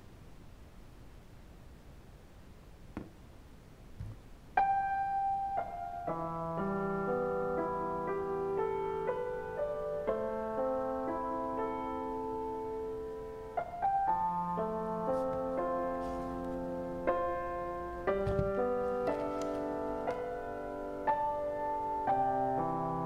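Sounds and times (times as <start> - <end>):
slow soft piano music: 4.5 - 23.0.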